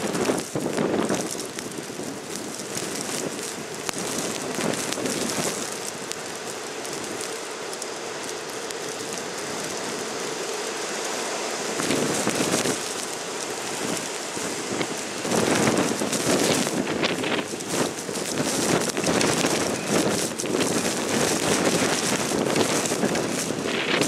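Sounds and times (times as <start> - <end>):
blizzard wind hissing: 0.0 - 24.0.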